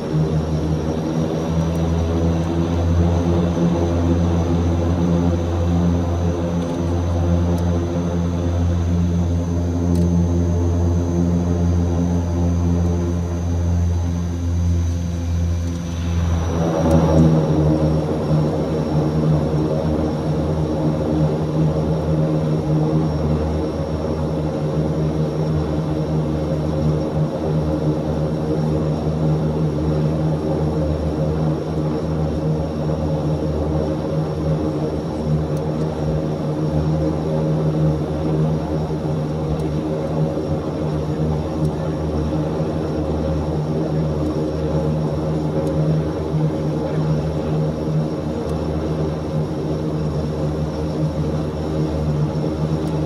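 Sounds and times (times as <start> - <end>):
turboprop engines droning: 0.0 - 53.0.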